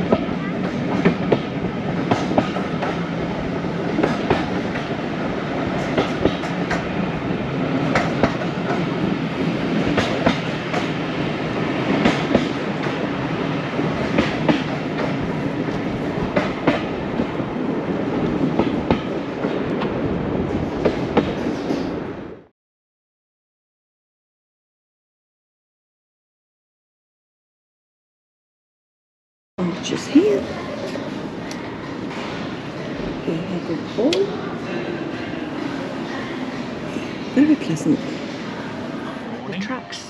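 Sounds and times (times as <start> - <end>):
train carriage rumble: 0.0 - 22.5, 29.6 - 40.0.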